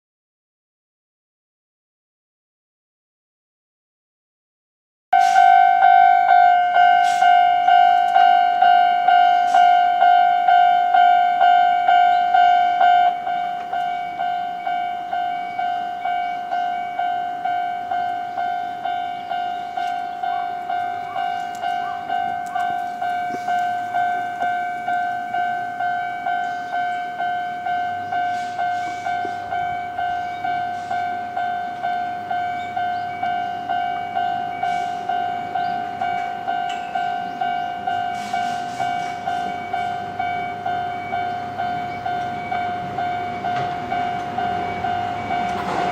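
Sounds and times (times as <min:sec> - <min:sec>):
level crossing alarm ringing: 0:05.2 - 0:45.9.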